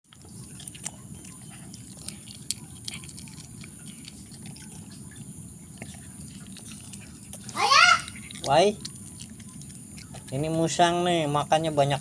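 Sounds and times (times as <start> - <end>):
animal chewing wetly: 0.0 - 12.0
steady low hum: 0.1 - 12.0.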